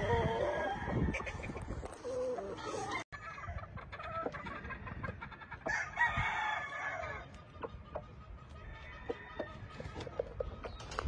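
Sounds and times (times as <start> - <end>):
roosters crowing: 0.0 - 4.6, 5.4 - 10.8
roosters clucking: 0.0 - 11.0.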